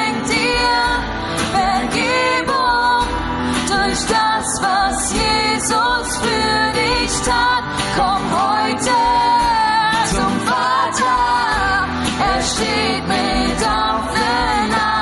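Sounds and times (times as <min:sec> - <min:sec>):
person singing worship song: 0:00.0 - 0:15.0.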